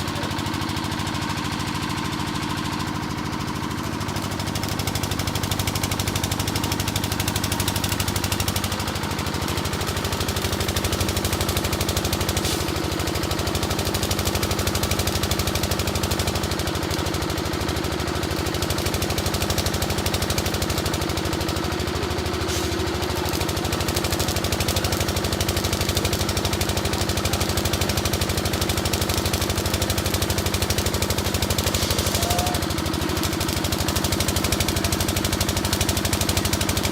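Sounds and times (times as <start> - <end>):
engine knocking: 0.0 - 36.9.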